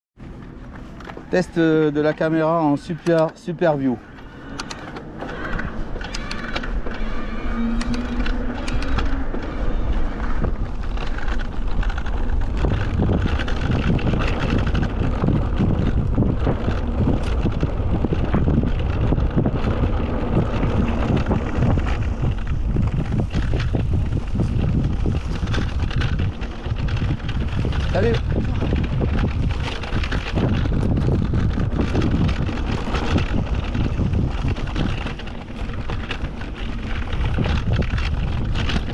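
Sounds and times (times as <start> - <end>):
bike tyre noise: 0.2 - 38.9
sharp clicks and rattles: 0.2 - 38.9
wind buffeting microphone: 0.2 - 38.9.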